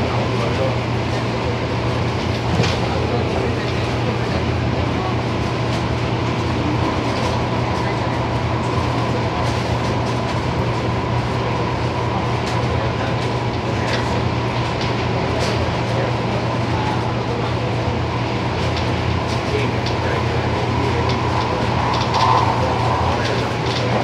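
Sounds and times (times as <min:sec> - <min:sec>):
train rumble and hum: 0:00.0 - 0:24.0.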